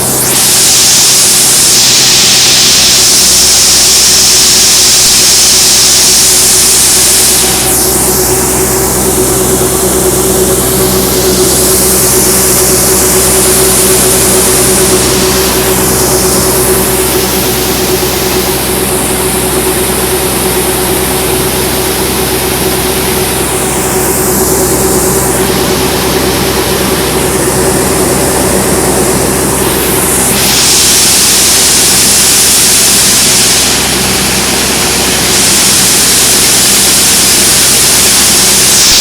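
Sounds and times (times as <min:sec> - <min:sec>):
tractor engine running under load: 0:00.0 - 0:03.8, 0:05.8 - 0:39.0
hiss: 0:00.0 - 0:39.0.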